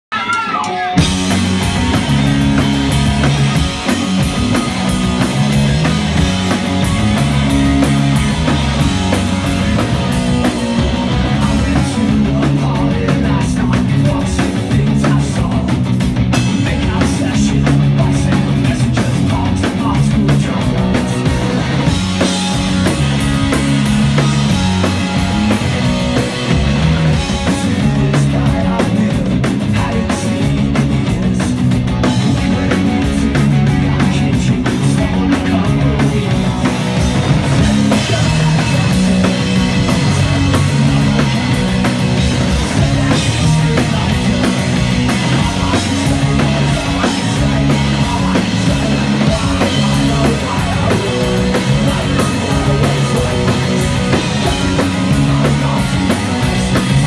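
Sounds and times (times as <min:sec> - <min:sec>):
bass guitar: 0:00.0 - 0:57.0
drum kit: 0:00.1 - 0:57.0
electric guitars: 0:00.1 - 0:57.0.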